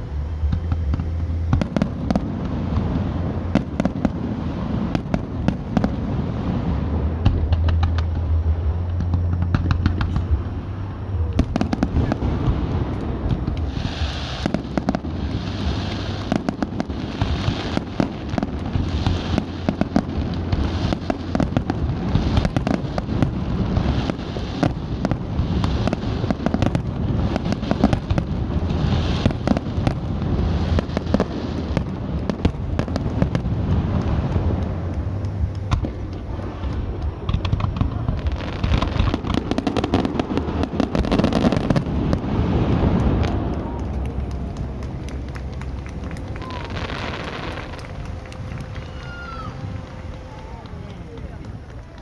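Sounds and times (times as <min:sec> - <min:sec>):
fireworks bangs and crackling: 0:00.0 - 0:52.0
rushing hiss of fireworks: 0:00.0 - 0:52.0.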